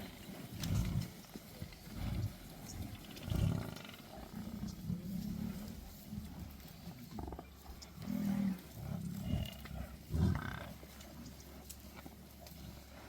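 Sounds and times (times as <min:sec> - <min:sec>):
lions growling: 0:01.8 - 0:13.0.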